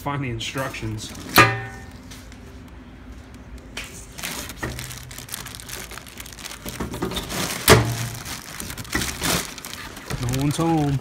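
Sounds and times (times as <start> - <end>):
plastic wrap crinkling: 0.6 - 11.0.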